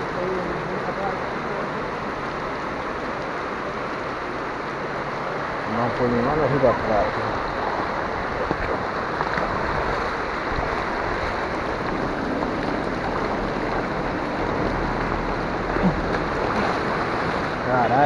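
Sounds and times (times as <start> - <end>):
heavy rain on street: 0.0 - 18.0.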